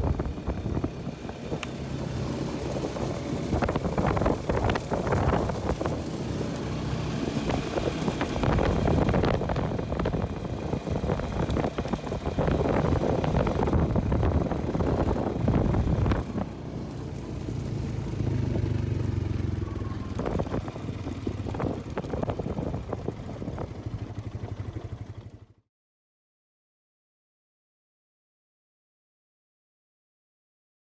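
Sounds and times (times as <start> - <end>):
vehicle engine running: 0.0 - 25.6.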